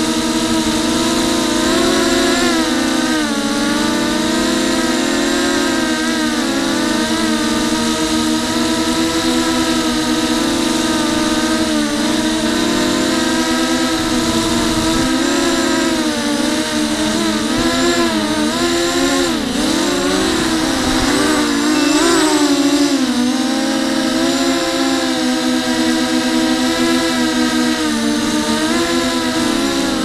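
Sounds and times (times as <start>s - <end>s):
quadcopter propellers whining: 0.0s - 30.0s.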